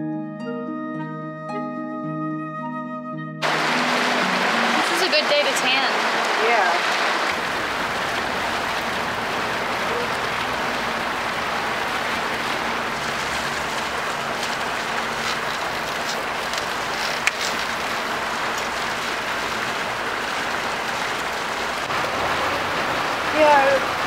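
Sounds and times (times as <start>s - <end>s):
running splashing water: 3.4s - 24.0s.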